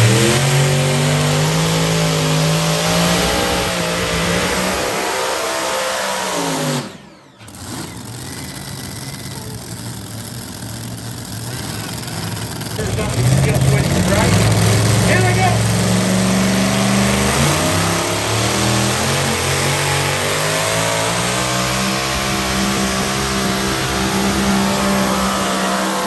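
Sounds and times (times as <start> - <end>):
pulling tractor engines: 0.0 - 26.0.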